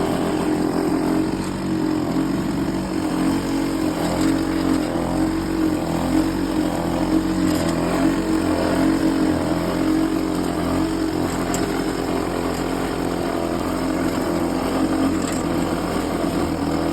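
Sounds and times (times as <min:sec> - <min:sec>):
lawn mower engine running: 0:00.0 - 0:16.9.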